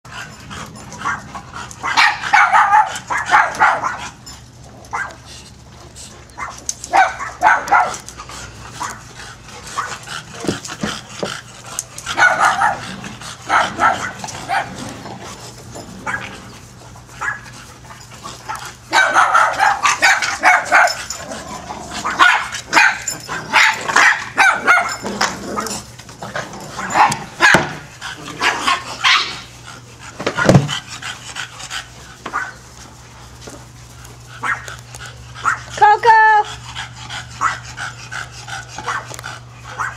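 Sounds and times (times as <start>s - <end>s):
dogs barking and yipping: 0.1s - 39.9s.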